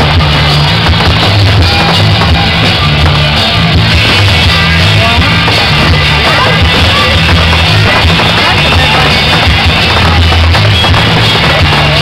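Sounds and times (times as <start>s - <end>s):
loud rock music over loudspeakers: 0.0s - 12.0s.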